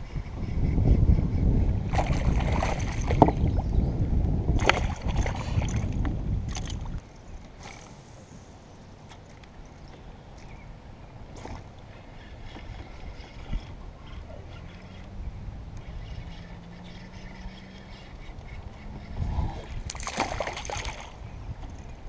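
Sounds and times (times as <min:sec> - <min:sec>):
wind buffeting microphone: 0:00.0 - 0:08.6, 0:10.5 - 0:22.0.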